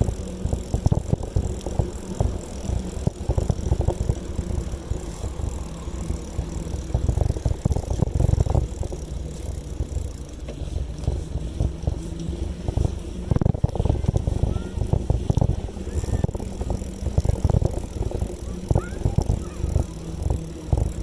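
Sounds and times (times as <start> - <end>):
bicycle rattles and knocks: 0.0 - 21.0
bicycle rumble: 0.0 - 21.0.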